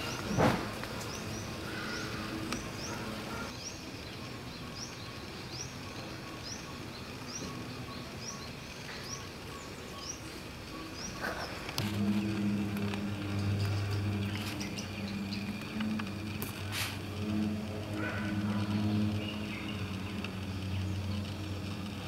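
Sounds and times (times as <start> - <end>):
bird chirping upward sweep: 0.0 - 22.0.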